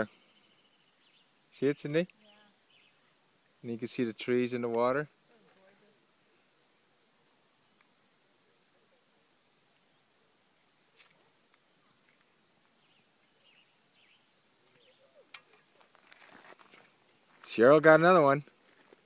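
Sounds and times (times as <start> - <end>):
faint insect chirping: 0.0 - 19.0.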